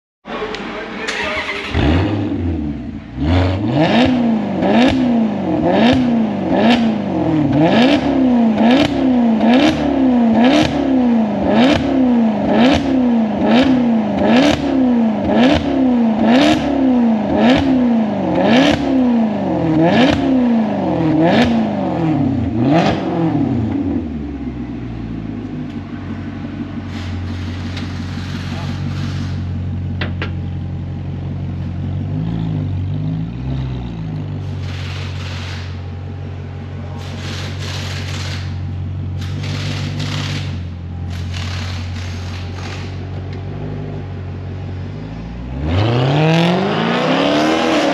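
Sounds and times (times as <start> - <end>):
car engine revving and idling: 0.3 - 47.9.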